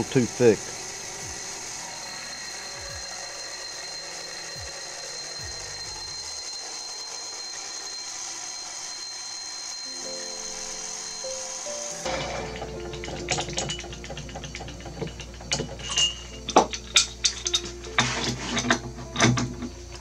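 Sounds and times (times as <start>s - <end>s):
milling machine cutting: 0.0s - 20.0s
thin high whine: 0.0s - 20.0s.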